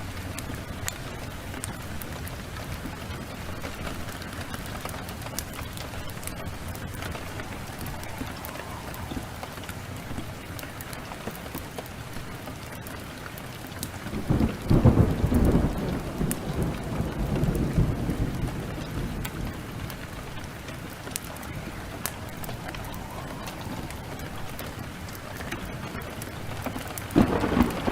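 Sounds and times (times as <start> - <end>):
thunder rumbling: 0.0 - 11.7, 14.0 - 27.9
heavy rain: 0.0 - 27.9
wood fire crackling: 0.0 - 27.9.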